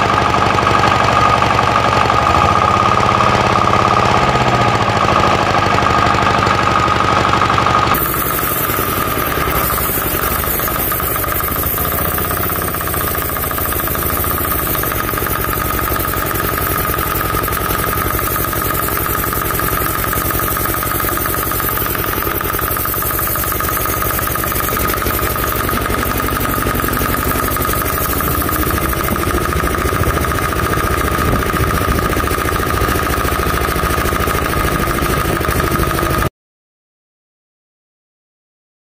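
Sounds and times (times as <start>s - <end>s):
diesel engine knocking: 0.0s - 36.3s.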